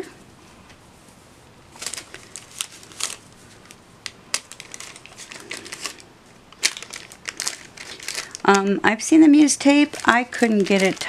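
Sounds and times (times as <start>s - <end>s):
wax paper and plastic crinkling: 1.0s - 11.0s.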